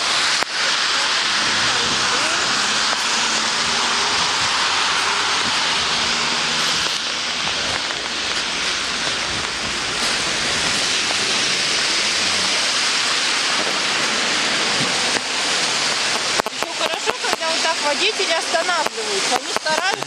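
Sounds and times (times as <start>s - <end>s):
car engine running: 0.0s - 17.9s
heavy rain hiss: 0.0s - 20.0s.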